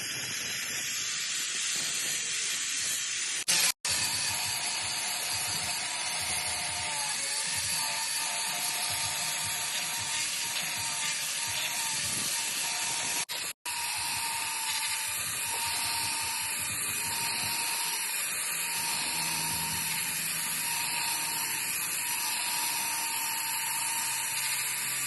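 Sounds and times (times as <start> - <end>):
power polisher grinding a knife blade: 0.0 - 25.0.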